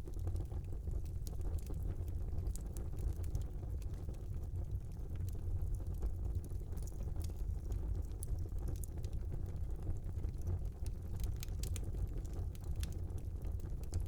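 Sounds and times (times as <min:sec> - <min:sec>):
fire crackles and pops: 0:00.0 - 0:14.0
fire flames rumbling: 0:00.0 - 0:14.0.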